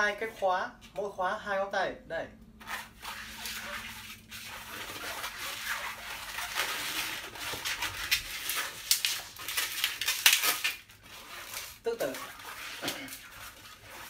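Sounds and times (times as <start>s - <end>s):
balloons squeaking and rubbing: 2.6s - 14.0s.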